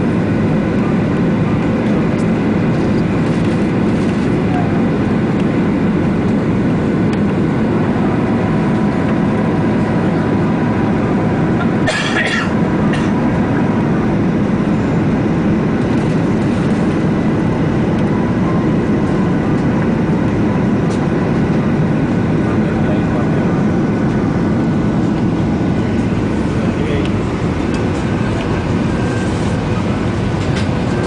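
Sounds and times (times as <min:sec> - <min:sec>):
airliner cabin engine rush: 0:00.0 - 0:31.0.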